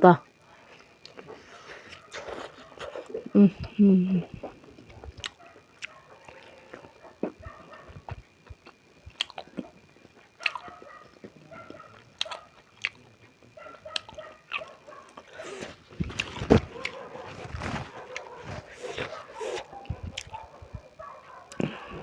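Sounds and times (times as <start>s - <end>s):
chewing and biting food: 0.8s - 3.3s, 4.3s - 22.0s.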